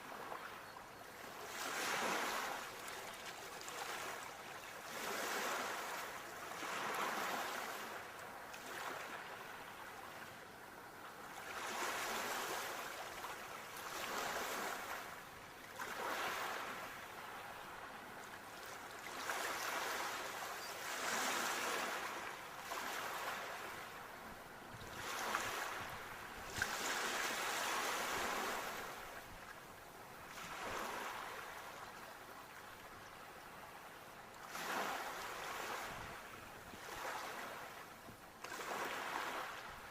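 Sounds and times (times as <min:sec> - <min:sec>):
sea waves breaking on shore: 0:00.0 - 0:00.6, 0:01.2 - 0:39.9.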